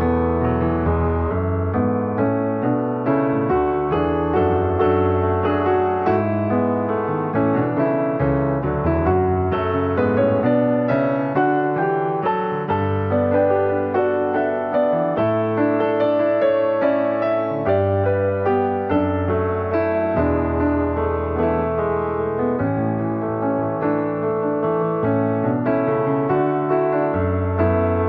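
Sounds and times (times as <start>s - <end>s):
calm piano music: 0.0s - 28.0s.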